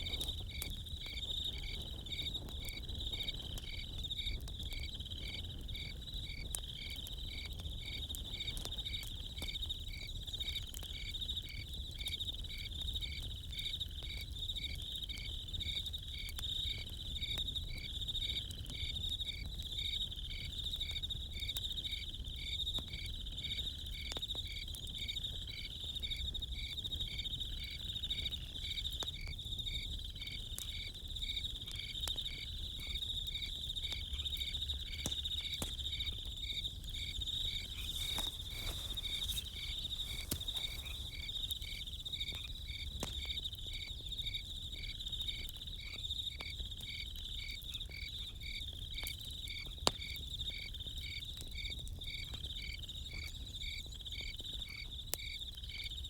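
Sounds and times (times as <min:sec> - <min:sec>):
campfire crackling: 0:00.0 - 0:48.1
crickets chirping: 0:00.0 - 0:56.0.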